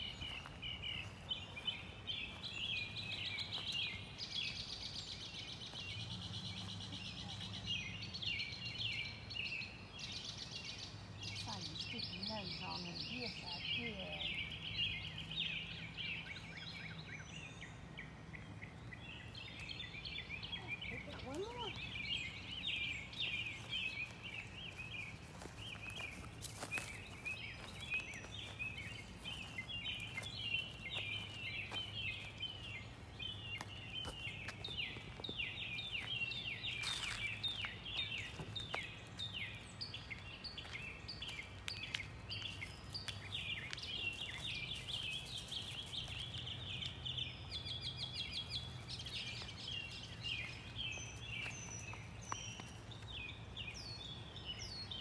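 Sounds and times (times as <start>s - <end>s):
birds chirping chorus: 0.0s - 55.0s.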